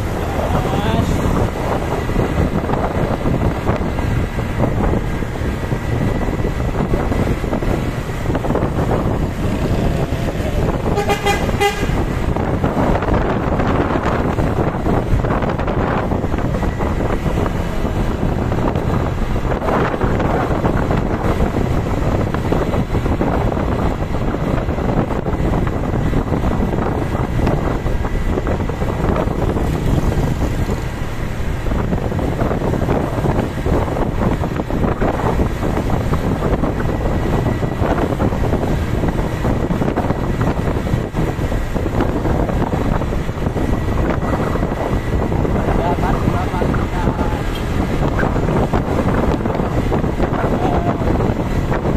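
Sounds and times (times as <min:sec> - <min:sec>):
moving vehicle rumble: 0:00.0 - 0:51.9
wind buffeting microphone: 0:00.0 - 0:51.9.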